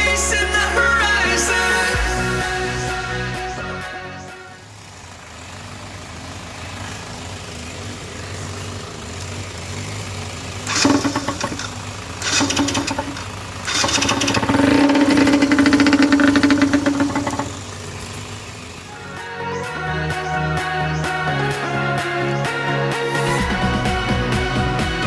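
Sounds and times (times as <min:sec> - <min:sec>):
two-stroke engine idling and revving: 0:00.0 - 0:25.0.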